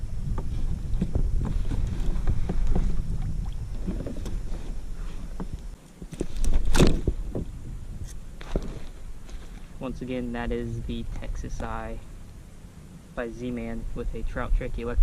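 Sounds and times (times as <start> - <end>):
wind on microphone: 0.0 - 11.8, 13.6 - 15.0.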